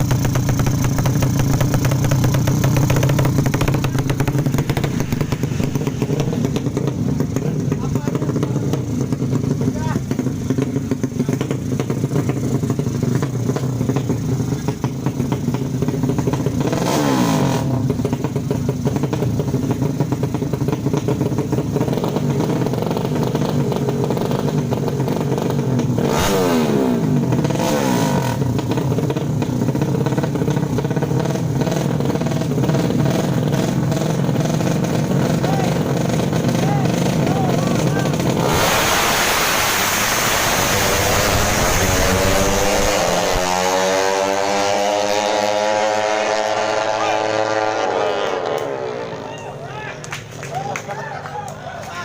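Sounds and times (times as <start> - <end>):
racing motorcycle engines: 0.0 - 52.0.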